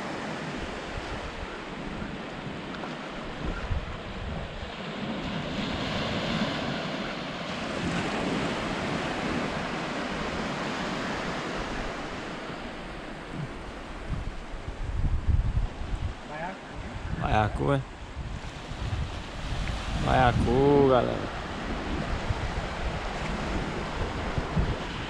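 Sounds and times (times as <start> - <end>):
small waves washing onto beach: 0.0 - 25.0
wind on microphone: 0.0 - 25.0.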